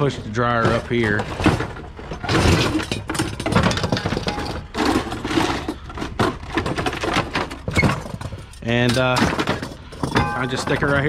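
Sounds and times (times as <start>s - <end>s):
metal scrap clattering and scraping: 0.0s - 11.0s.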